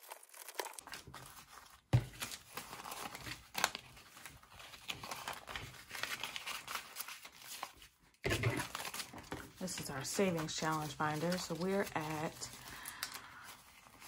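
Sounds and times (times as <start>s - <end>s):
paper banknotes rustling: 0.0s - 14.0s.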